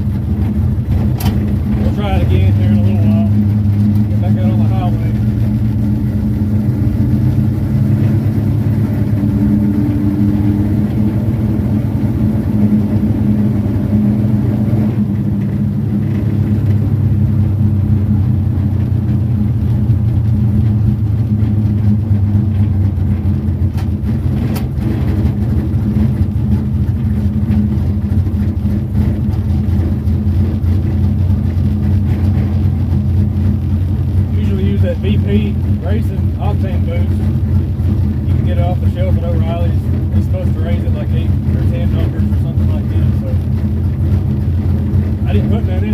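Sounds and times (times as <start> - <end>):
car engine running steadily: 0.0 - 45.9.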